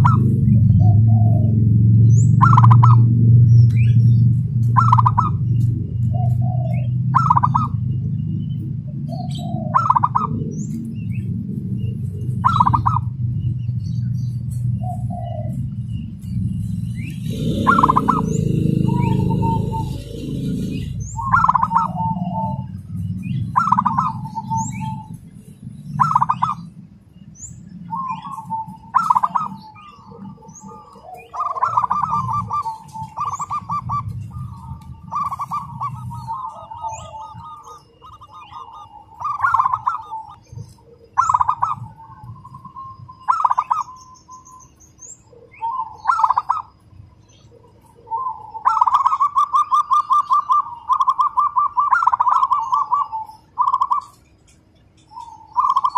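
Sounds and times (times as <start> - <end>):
dove cooing: 0.0 - 26.8, 27.7 - 44.4, 45.0 - 54.2, 55.1 - 55.9.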